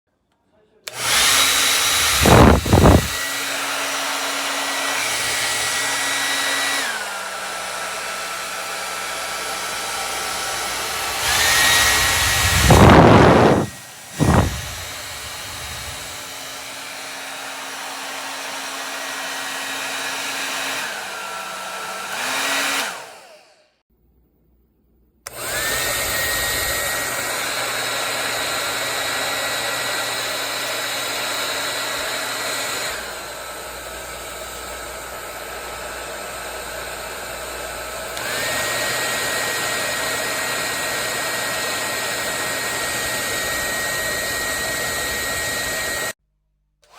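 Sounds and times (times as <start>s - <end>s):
hair dryer whine and air rush: 0.8s - 23.8s, 25.3s - 46.2s.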